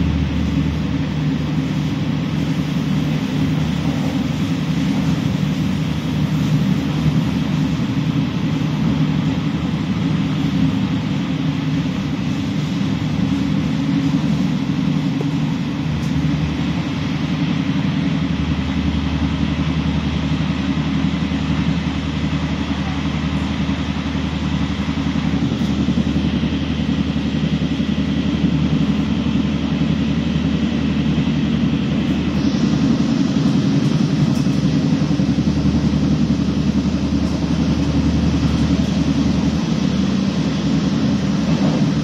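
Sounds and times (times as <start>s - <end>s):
low steady hum: 0.0s - 42.0s
train rumbling on track: 0.0s - 42.0s.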